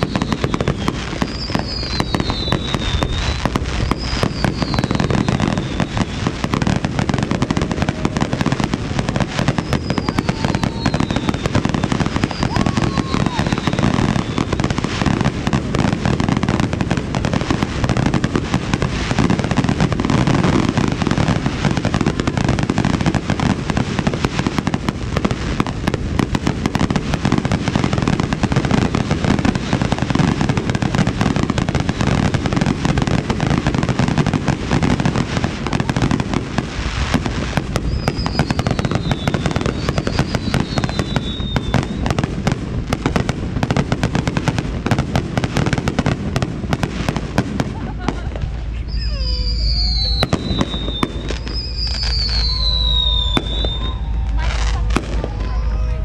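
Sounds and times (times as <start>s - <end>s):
fireworks booms and crackling: 0.0s - 56.0s.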